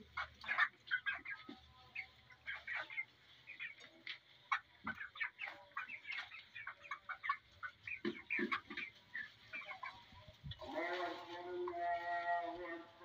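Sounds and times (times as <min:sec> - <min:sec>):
chickens peeping and clucking: 0:00.0 - 0:13.0.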